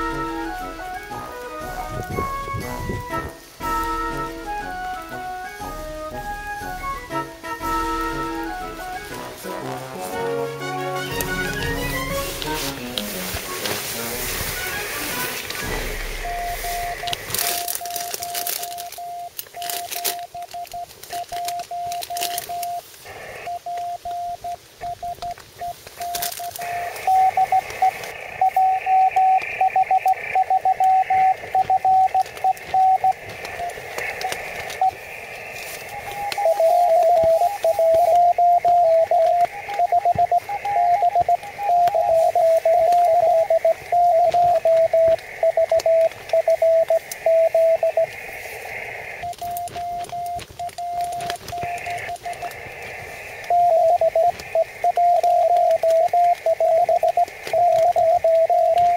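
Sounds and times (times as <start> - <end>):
higher-pitched morse signal: 0.0 - 58.9
morse code beeps: 0.0 - 58.9
radio band hiss: 0.0 - 58.9.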